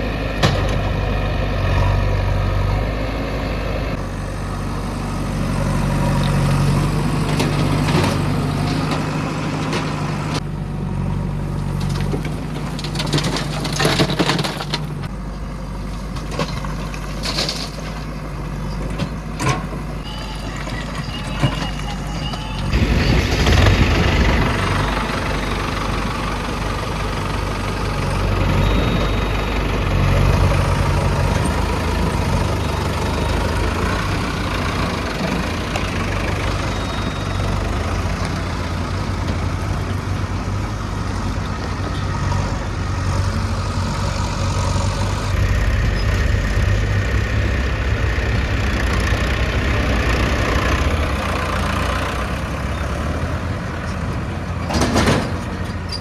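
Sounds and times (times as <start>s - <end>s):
diesel engine rumbling: 0.0s - 56.0s.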